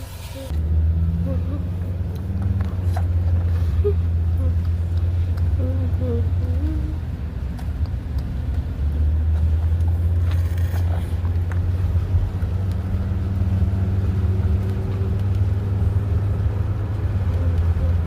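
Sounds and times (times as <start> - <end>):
vehicle rumbling in motion: 0.0 - 18.0.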